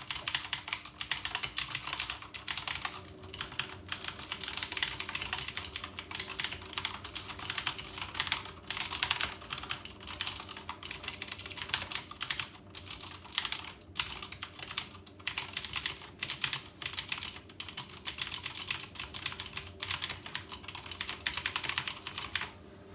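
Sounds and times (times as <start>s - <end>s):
mechanical keyboard typing: 0.0s - 22.5s.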